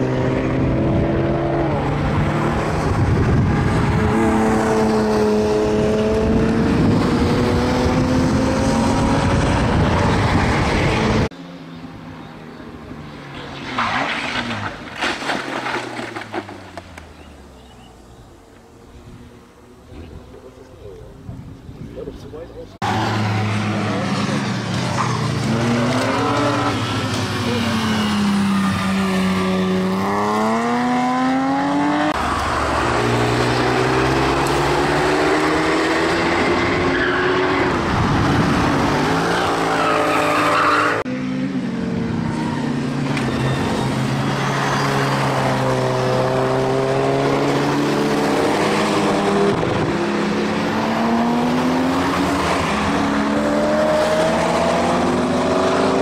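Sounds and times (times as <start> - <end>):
race cars passing at speed: 0.0 - 15.0, 22.6 - 56.0.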